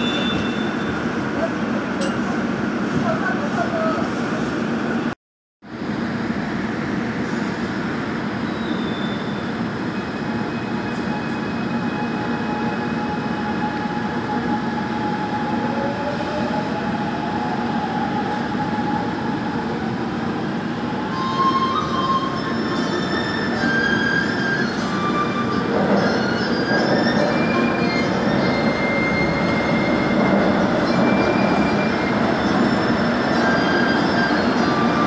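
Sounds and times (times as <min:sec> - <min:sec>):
subway train running noise: 0:00.0 - 0:35.0.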